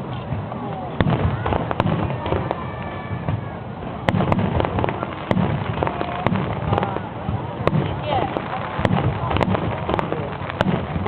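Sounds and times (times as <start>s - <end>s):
crowd din: 0.0s - 11.0s
fireworks bangs: 0.0s - 11.0s.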